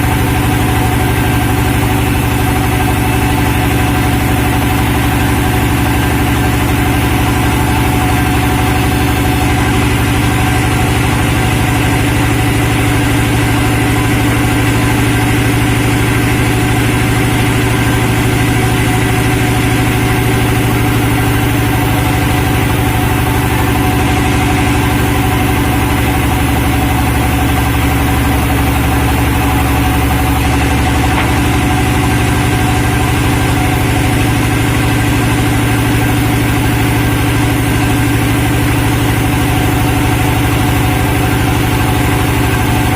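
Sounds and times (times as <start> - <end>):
sawmill machinery droning: 0.0 - 42.9.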